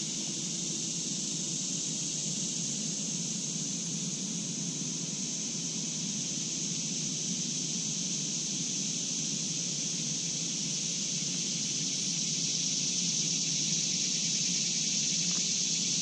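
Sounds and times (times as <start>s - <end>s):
high hiss: 0.0s - 16.0s.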